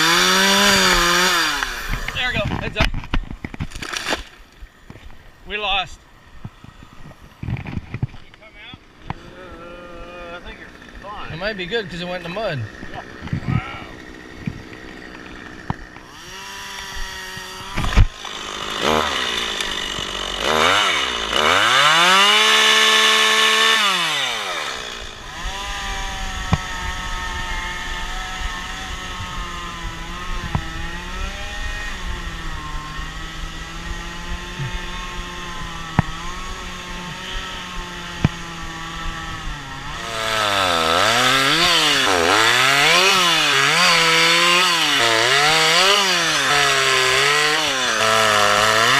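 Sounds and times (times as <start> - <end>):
chainsaw engine revving and idling: 0.0 - 3.0, 6.4 - 48.9.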